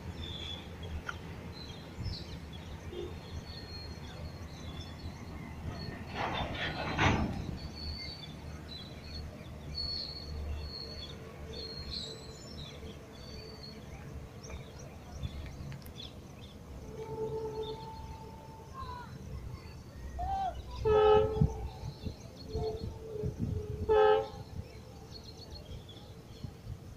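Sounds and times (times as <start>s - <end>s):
birds chirping: 0.2s - 26.8s.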